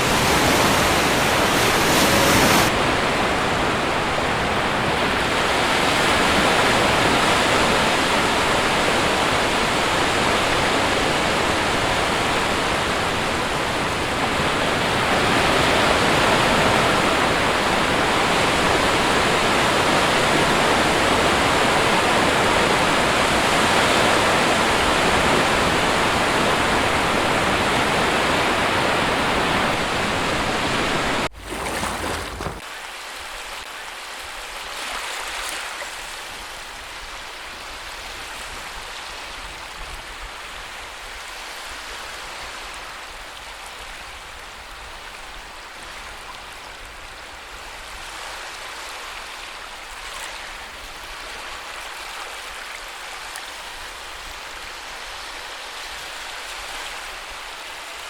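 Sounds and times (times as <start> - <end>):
sea waves and surf: 0.0 - 58.0.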